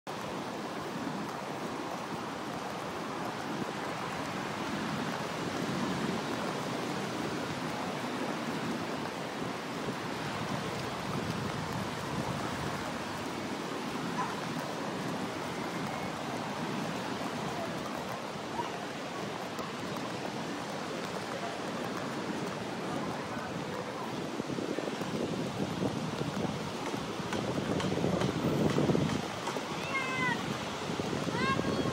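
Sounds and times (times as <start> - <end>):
ocean surf washing onto beach: 0.1 - 31.9.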